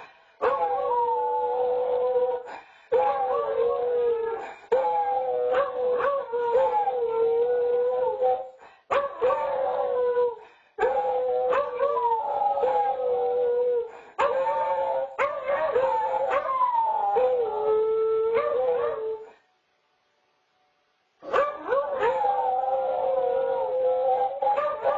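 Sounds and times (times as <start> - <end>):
dogs howling: 0.4 - 19.4, 21.3 - 24.9.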